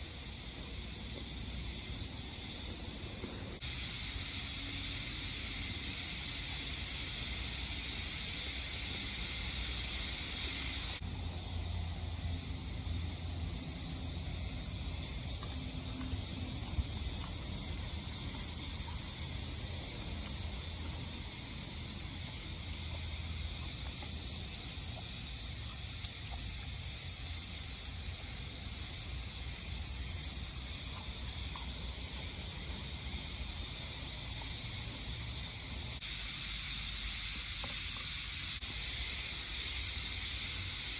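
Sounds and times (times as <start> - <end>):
cicadas droning: 0.0 - 40.9.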